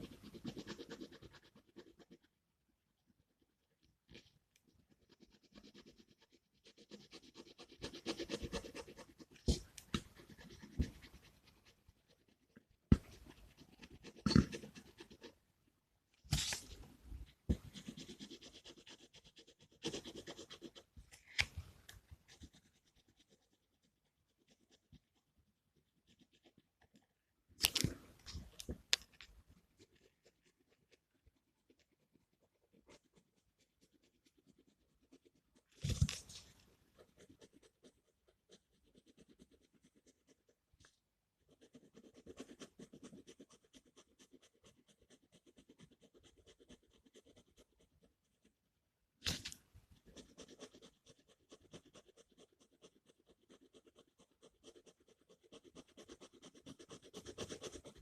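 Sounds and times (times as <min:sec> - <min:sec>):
pen scratching on paper: 0:00.0 - 0:02.3, 0:04.0 - 0:15.4, 0:16.3 - 0:48.6, 0:49.2 - 0:58.0.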